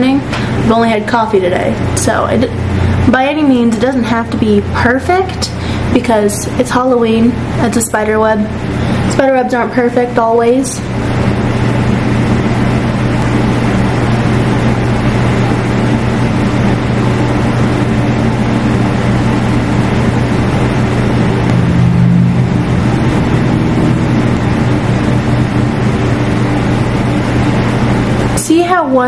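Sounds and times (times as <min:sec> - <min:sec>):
steady machine noise with low hum: 0:00.0 - 0:29.0.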